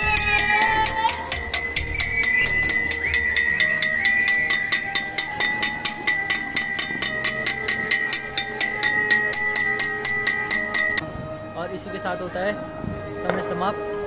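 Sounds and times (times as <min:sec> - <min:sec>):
bell-like strikes music: 0:00.0 - 0:11.9
steady ringing tones: 0:00.0 - 0:12.9.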